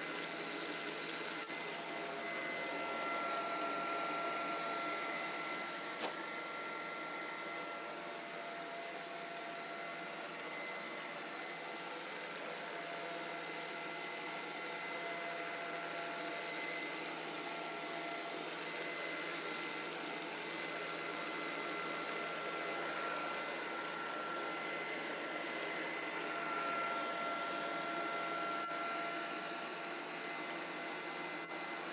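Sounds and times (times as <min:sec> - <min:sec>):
robot vacuum cleaner running: 0:00.0 - 0:31.9.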